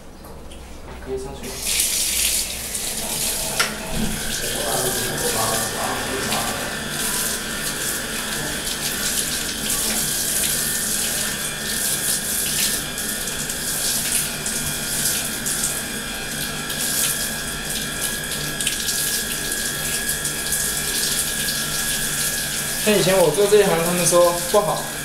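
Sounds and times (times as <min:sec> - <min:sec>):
shower water running into bathtub: 0:01.4 - 0:25.0.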